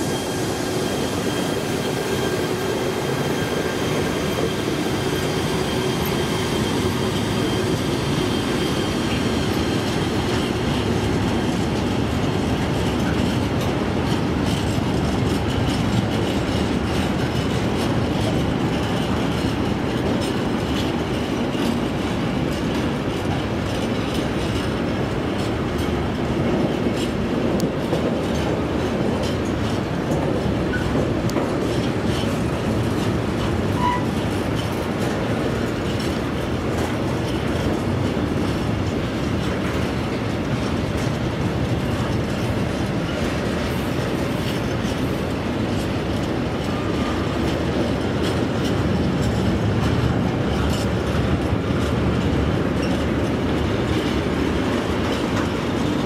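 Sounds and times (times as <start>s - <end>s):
train wheels rumbling on rails: 0.0s - 56.0s
clicking over rail joints: 9.1s - 56.0s.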